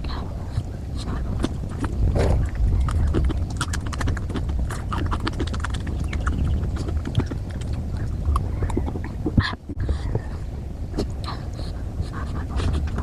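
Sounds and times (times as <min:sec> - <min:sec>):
wet chewing mouth clicks: 0:00.0 - 0:13.0.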